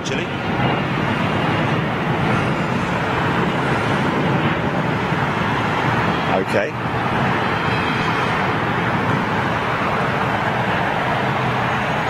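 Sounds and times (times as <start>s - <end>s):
airport ground noise: 0.0s - 12.0s
distant jet engines roaring: 0.0s - 12.0s.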